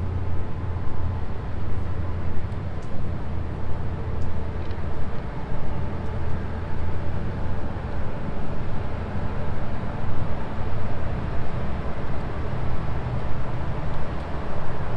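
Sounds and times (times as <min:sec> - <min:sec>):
low city rumble: 0:00.0 - 0:14.9.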